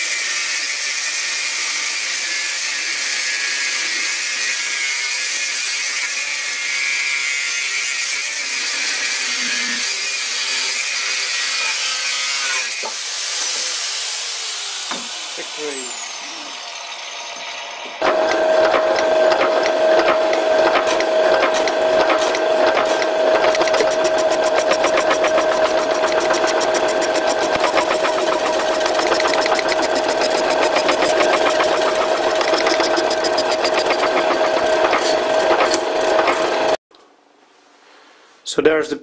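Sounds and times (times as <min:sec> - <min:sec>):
power hacksaw cutting steel: 0:00.0 - 0:36.8.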